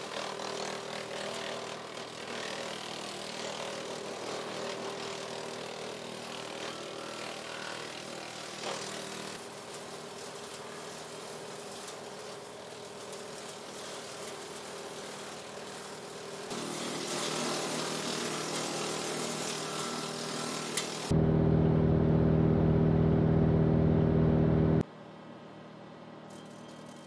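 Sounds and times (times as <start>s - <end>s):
wood chipper chipping limbs: 0.0s - 22.9s.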